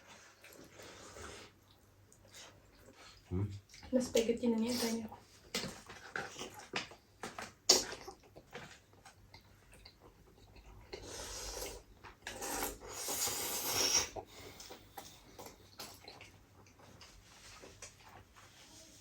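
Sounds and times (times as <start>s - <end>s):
eating noises: 0.0s - 17.2s.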